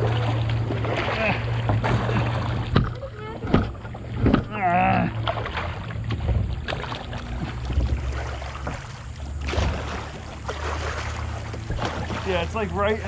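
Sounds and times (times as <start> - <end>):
paddle strokes in water: 0.0 - 13.0.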